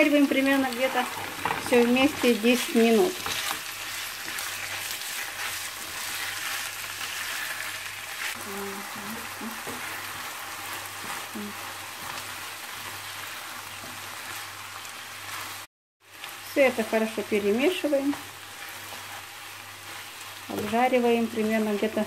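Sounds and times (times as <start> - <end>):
chicken sizzling in frying pan: 0.0 - 22.0
spatula stirring in pan: 0.1 - 22.0.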